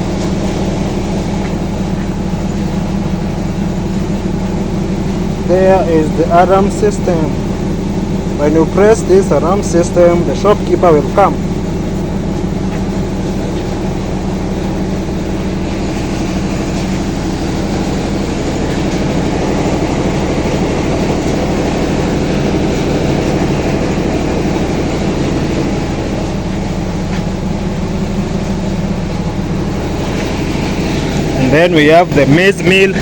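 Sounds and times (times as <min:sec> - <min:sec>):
grinding mill droning: 0:00.0 - 0:33.0.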